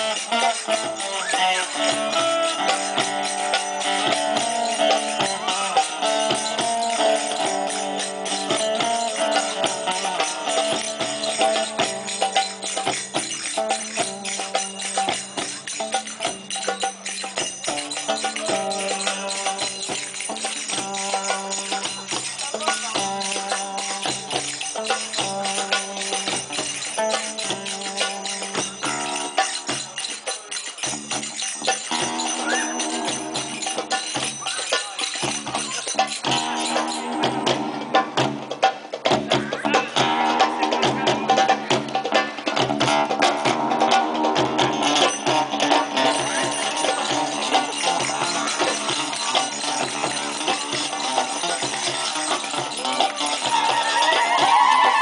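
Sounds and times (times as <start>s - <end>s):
jingling hand percussion: 0.0s - 55.0s
live band music: 0.0s - 55.0s.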